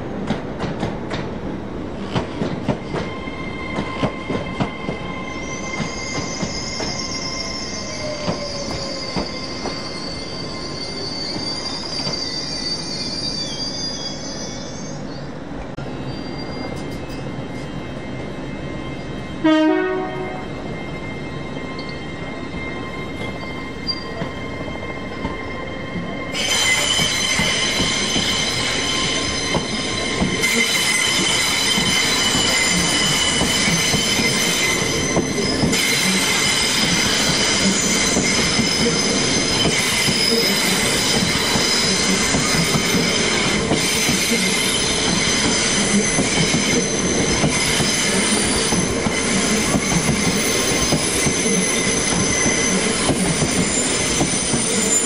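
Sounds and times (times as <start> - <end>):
train rolling rumble: 0.0 - 12.6, 20.0 - 55.0
train wheels squealing: 2.0 - 55.0.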